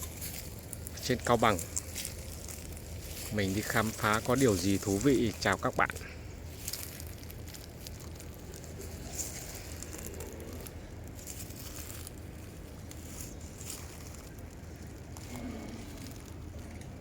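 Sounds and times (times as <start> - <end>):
dry leaves and twigs crackling: 0.0 - 17.0
low steady hum: 0.0 - 17.0.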